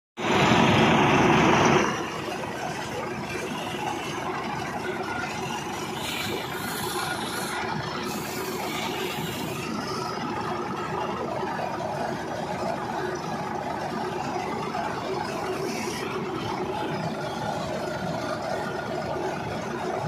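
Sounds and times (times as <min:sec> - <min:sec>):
tractor diesel engine under load: 0:00.2 - 0:20.0.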